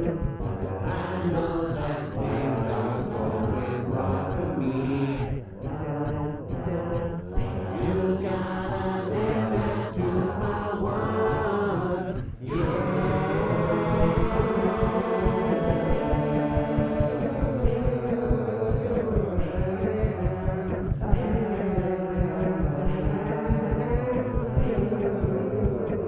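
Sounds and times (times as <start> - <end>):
a cappella voices singing: 0.0 - 26.0.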